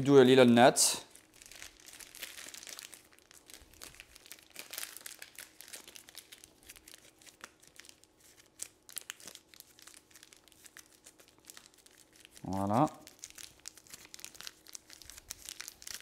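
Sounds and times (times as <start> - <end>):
plastic bag crinkling: 1.0 - 16.0.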